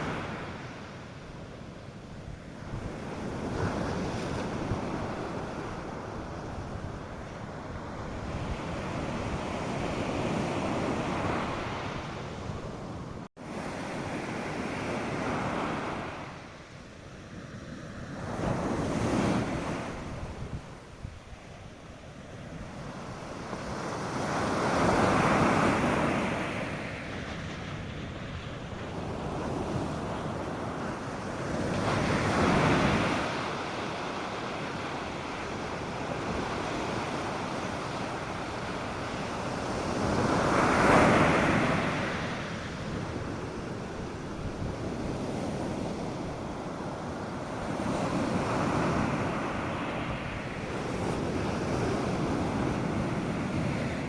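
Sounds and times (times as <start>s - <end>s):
surf breaking on a beach: 0.0s - 54.0s.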